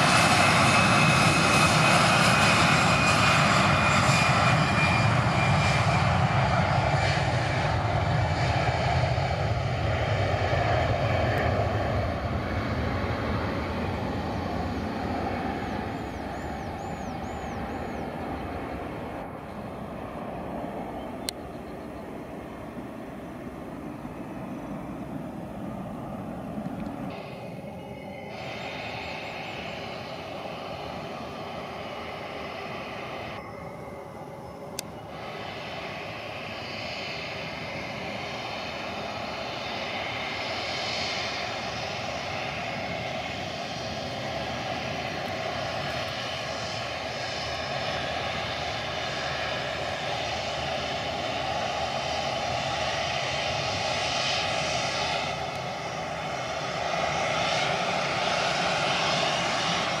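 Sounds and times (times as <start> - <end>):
jet engines rumbling and whining: 0.0 - 60.0.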